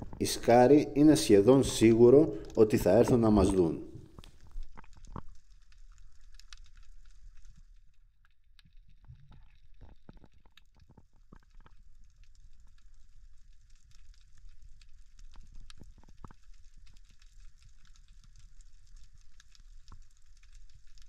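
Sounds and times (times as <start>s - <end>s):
crackle of tiny underwater clicks: 0.0s - 0.4s, 1.5s - 21.0s.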